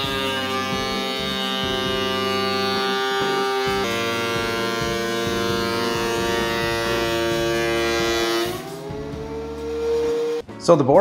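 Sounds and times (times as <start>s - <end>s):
thickness planer whine: 0.0s - 10.5s.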